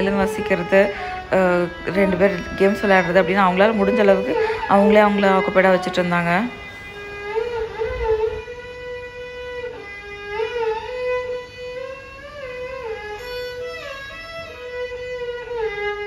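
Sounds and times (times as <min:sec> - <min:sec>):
solo violin melody: 0:00.0 - 0:16.0.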